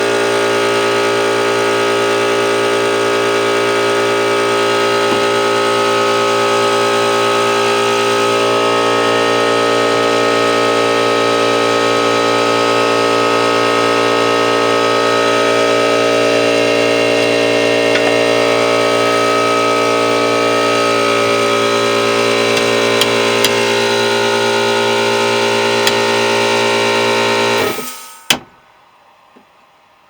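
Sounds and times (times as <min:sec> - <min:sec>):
air compressor humming and whining: 0:00.0 - 0:29.4.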